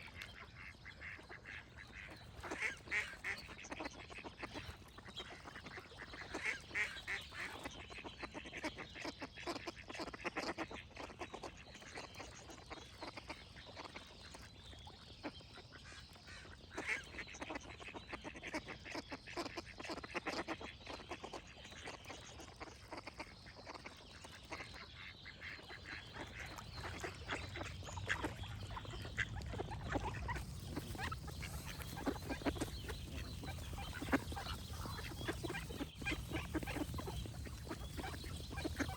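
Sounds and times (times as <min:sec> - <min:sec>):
ducks quacking: 0:00.0 - 0:11.7, 0:15.8 - 0:38.9.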